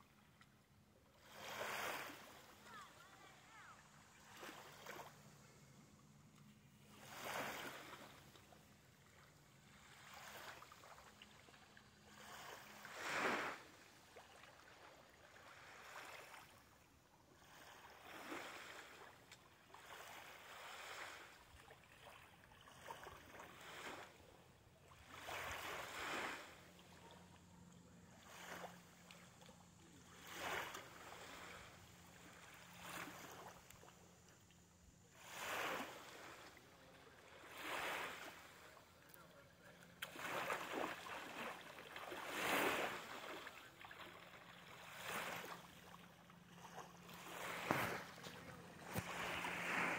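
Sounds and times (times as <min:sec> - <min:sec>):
small waves lapping on shore: 0:00.0 - 0:49.9.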